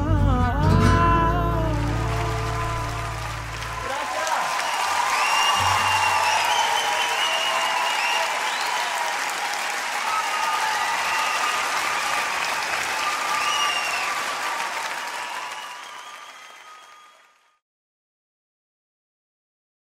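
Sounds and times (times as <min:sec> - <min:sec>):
audience applauding and cheering: 0:01.4 - 0:17.6.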